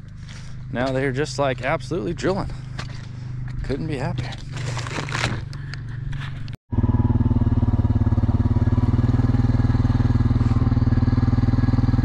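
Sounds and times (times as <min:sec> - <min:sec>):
small engine running: 0:00.1 - 0:12.0.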